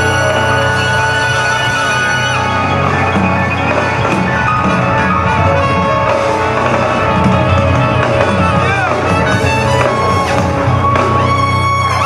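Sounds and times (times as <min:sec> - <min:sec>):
drums and percussion: 0:00.0 - 0:12.0
pop-flamenco band playing: 0:00.0 - 0:12.0.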